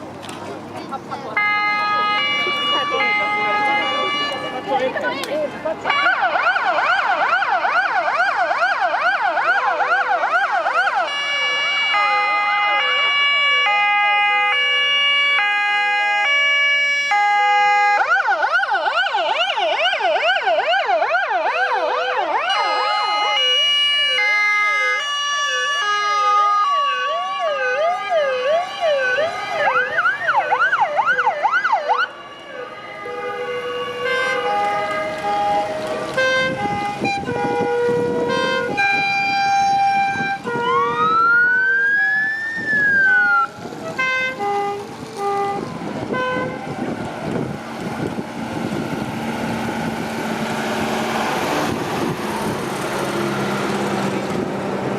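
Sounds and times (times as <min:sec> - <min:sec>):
yelp sirens sweeping: 0:00.6 - 0:54.9
two-tone sirens: 0:01.2 - 0:54.9.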